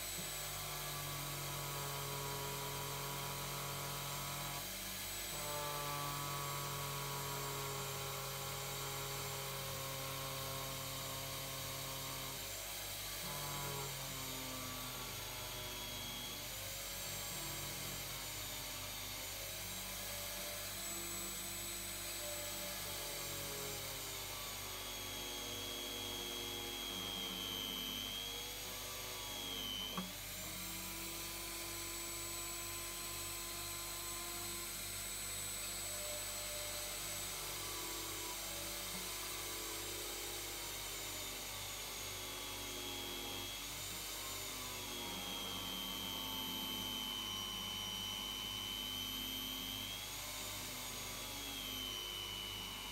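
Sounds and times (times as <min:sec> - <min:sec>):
drill press motor hum and whine: 0:00.0 - 0:52.9.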